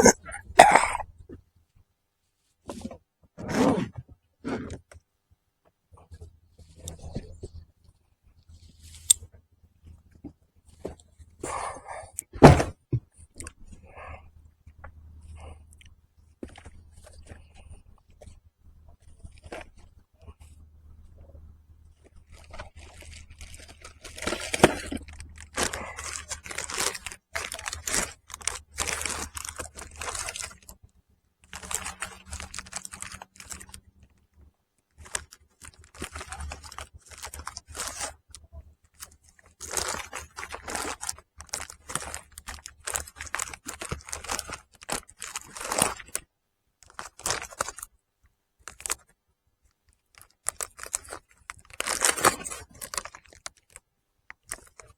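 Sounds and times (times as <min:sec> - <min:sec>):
crinkling and crunching handling noise: 0:00.0 - 0:05.0, 0:05.7 - 0:54.9.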